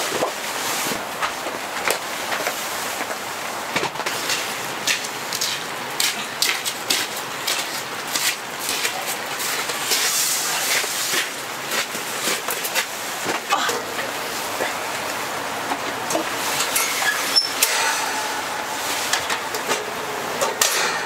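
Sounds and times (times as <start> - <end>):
rain and sleet on tent fabric: 0.0 - 21.0.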